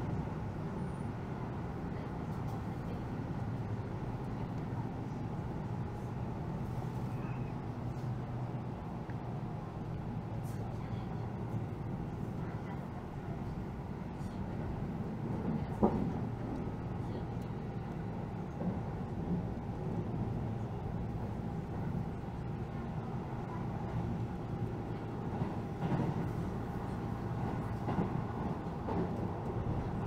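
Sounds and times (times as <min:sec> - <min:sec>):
wheels rumbling on rails: 0:00.0 - 0:30.0.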